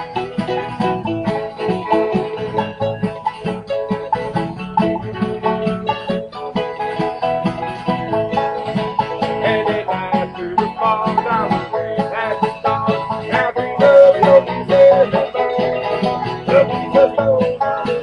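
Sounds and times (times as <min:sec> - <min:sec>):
acoustic bluegrass band: 0:00.0 - 0:18.0.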